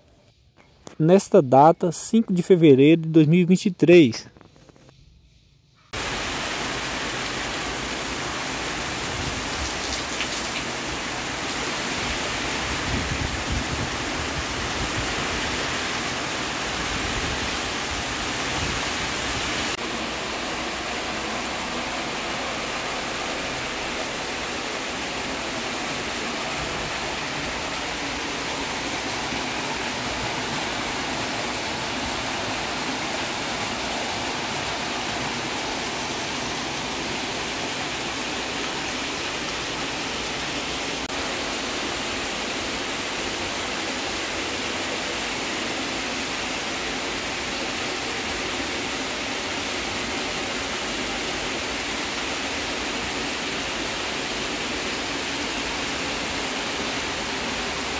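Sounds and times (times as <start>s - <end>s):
heavy rain: 6.0s - 57.9s.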